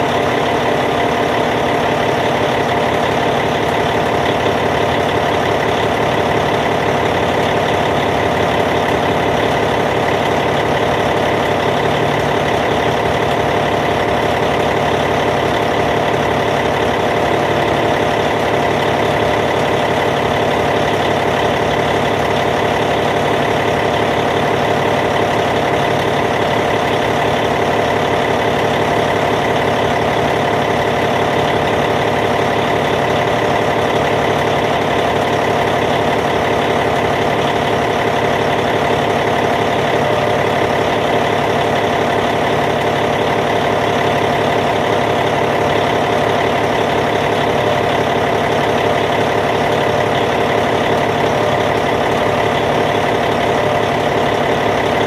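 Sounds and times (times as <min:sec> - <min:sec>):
bulldozer diesel engine idling: 0:00.0 - 0:55.0.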